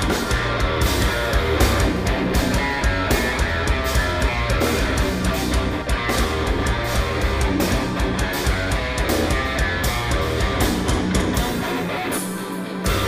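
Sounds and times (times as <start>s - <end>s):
loud progressive metal band: 0.0s - 13.0s.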